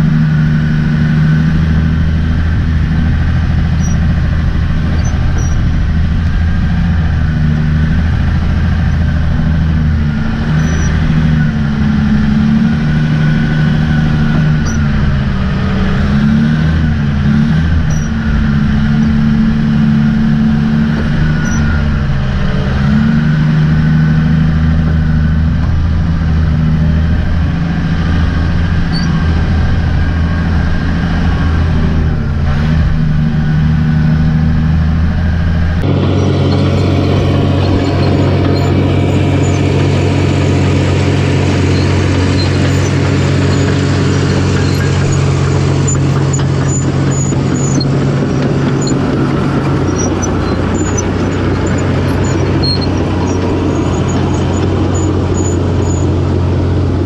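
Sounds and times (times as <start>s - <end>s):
crawler machine diesel engine: 0.0s - 57.0s
diesel engine under load: 0.0s - 57.0s.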